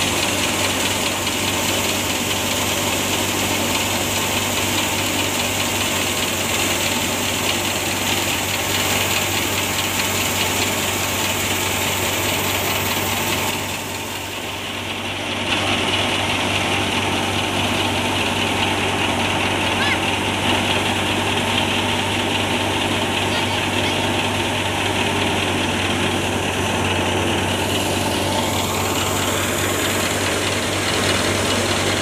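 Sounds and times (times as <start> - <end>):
thresher mechanical drone: 0.0 - 32.0.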